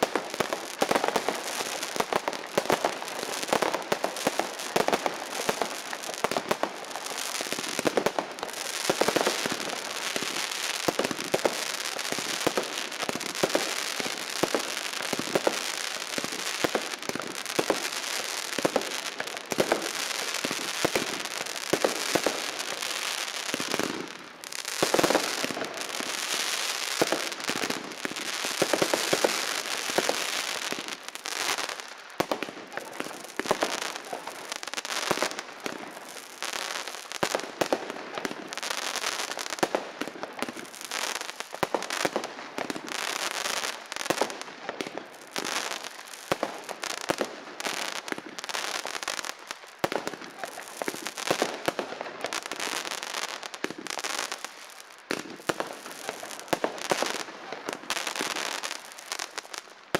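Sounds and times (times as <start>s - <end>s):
fireworks bangs: 0.0s - 59.6s
fireworks crackling: 0.0s - 59.9s.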